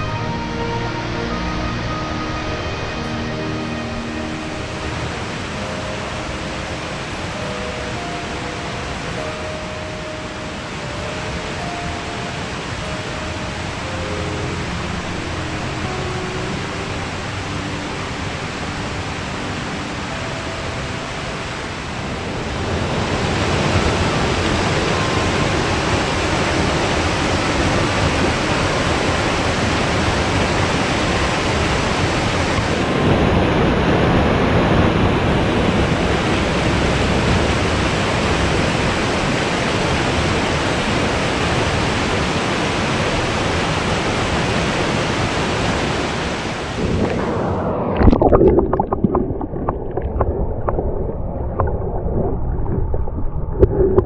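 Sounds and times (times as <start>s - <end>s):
stream rushing over boulders: 0.0s - 54.0s.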